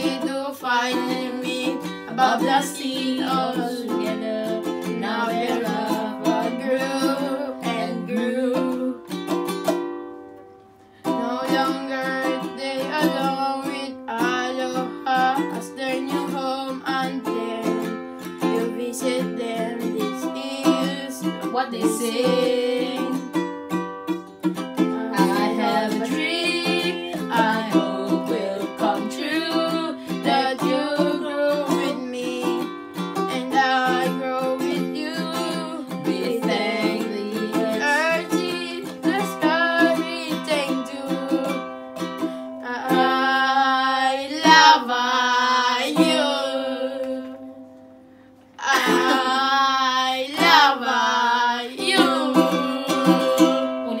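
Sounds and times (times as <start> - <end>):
voices singing: 0.0 - 9.2, 11.0 - 23.4, 24.9 - 41.7, 42.6 - 47.5, 48.6 - 54.0
ukulele strumming: 0.0 - 54.0.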